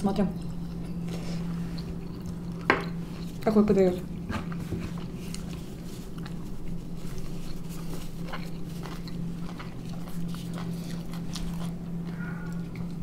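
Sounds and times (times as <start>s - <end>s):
low hum: 0.0s - 13.0s
person chewing: 0.4s - 3.5s, 4.4s - 13.0s.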